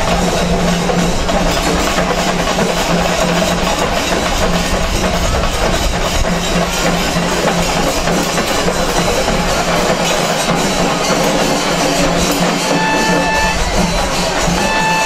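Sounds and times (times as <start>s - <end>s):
large crowd din: 0.0s - 15.0s
percussion ensemble drumming: 0.0s - 15.0s.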